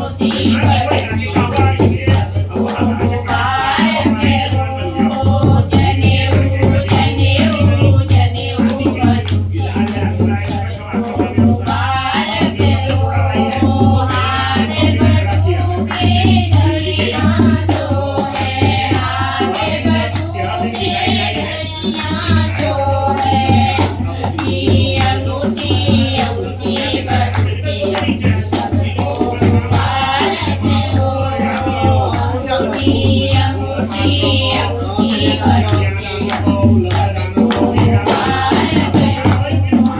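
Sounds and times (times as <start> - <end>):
hand drum beat: 0.0 - 39.9
person singing folk song: 0.0 - 39.9.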